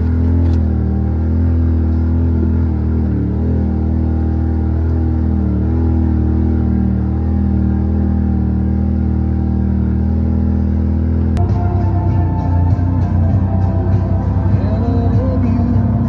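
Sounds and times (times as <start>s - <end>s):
utv engine running: 0.0s - 16.0s.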